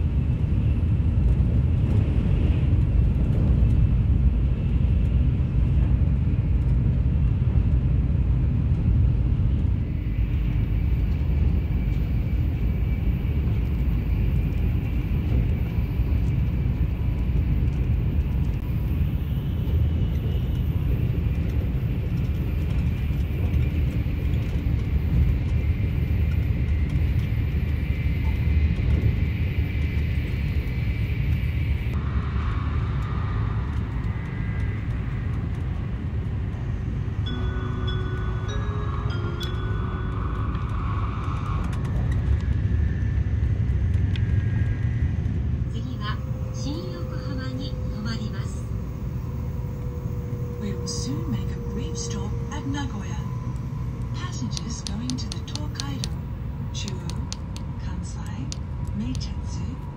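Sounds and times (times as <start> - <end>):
train cabin low rumble: 0.0 - 59.9
faint high whine: 9.2 - 59.9.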